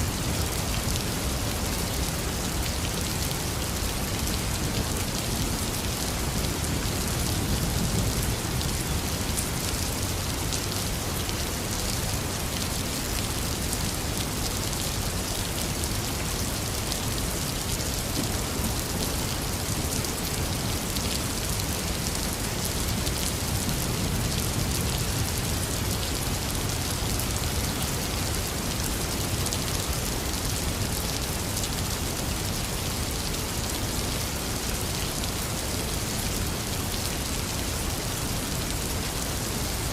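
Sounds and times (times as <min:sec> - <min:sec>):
intense rain: 0:00.0 - 0:39.9.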